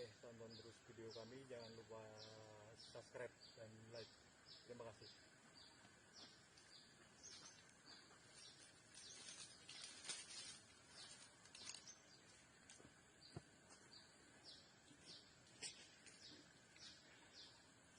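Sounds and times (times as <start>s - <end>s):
bird chirping: 0.0s - 17.9s
faint outdoor ambience: 0.0s - 17.9s.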